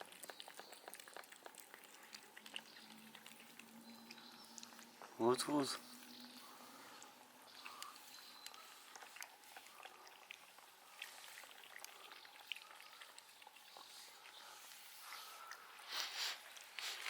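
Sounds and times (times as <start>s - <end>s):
cat chewing: 0.0s - 17.0s.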